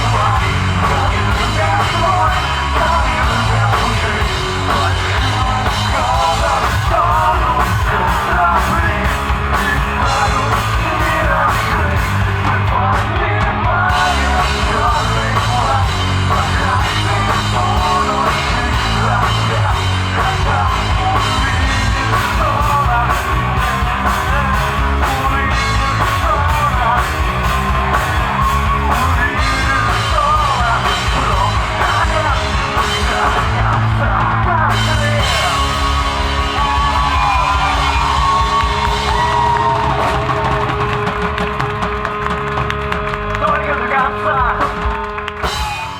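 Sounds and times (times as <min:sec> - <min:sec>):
shouted lead vocal: 0:00.0 - 0:41.6, 0:43.4 - 0:45.9
distorted guitars: 0:00.0 - 0:45.9
drum kit beat: 0:00.0 - 0:45.9.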